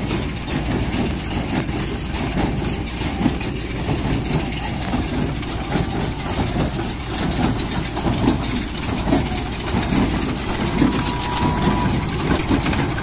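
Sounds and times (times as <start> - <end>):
baler mechanical clatter: 0.0 - 13.0
diesel engine running: 0.0 - 13.0.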